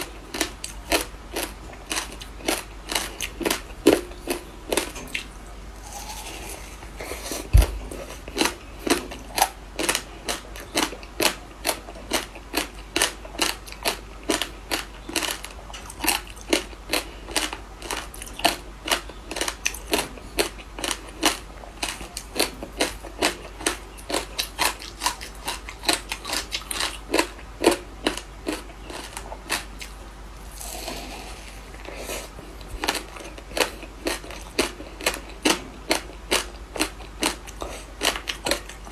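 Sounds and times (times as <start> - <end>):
ice being crunched and chewed: 5.8 - 29.9, 30.5 - 38.9.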